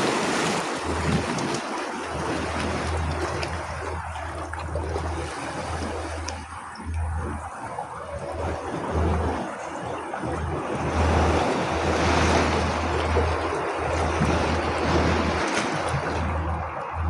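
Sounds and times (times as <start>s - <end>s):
low rumble: 0.0s - 17.0s
ocean waves surf: 0.0s - 17.0s.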